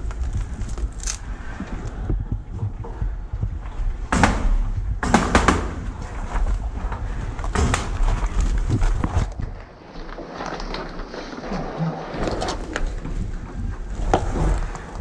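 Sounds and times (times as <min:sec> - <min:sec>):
low rumble of movement: 0:00.0 - 0:15.0.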